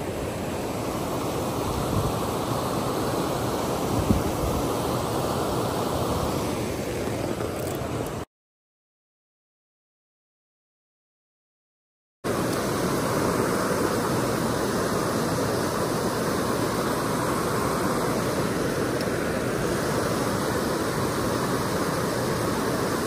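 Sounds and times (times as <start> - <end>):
river water rushing over weir: 0.0 - 8.3, 12.3 - 23.0.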